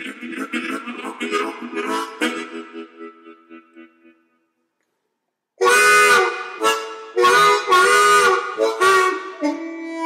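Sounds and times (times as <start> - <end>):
harmonica playing chords: 0.0 - 4.5, 5.6 - 10.0.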